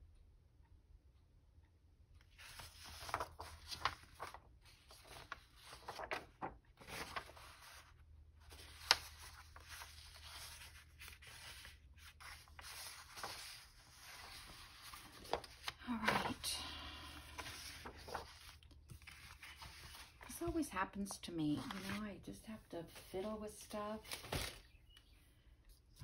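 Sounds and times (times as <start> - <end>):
paper rustling: 2.3 - 20.6, 21.4 - 24.8.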